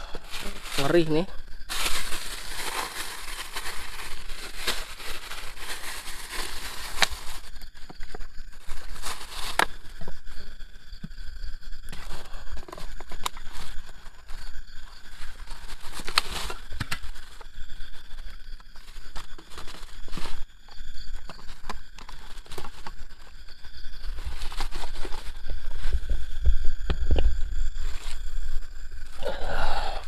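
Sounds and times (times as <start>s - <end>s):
rustling and handling noises: 0.0s - 10.6s, 11.9s - 29.1s.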